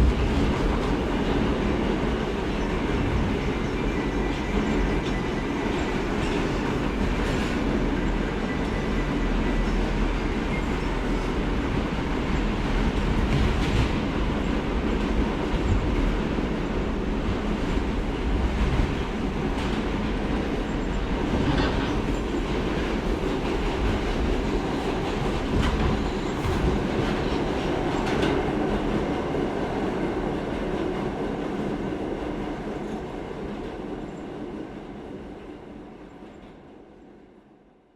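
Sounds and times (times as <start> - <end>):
subway train running on tracks: 0.0 - 37.9.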